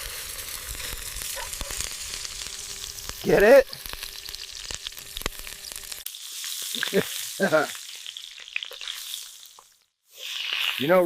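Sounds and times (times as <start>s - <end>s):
beef sizzling and crackling: 0.0s - 11.0s.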